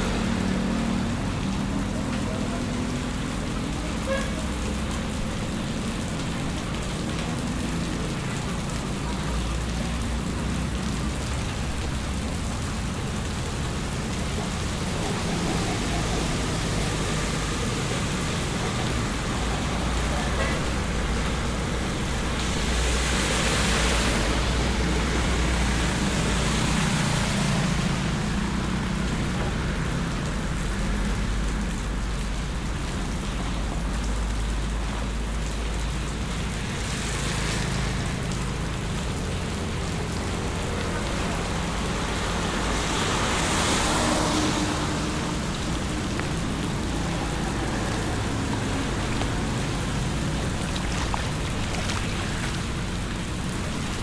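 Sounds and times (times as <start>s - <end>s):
heavy rain hissing: 0.0s - 54.0s
vehicles passing on wet road: 0.0s - 54.0s.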